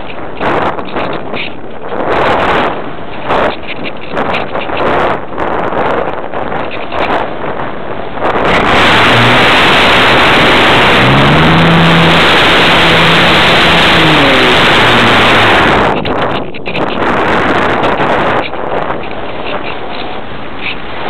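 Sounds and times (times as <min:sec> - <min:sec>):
electric motor and propeller: 0:00.0 - 0:21.0.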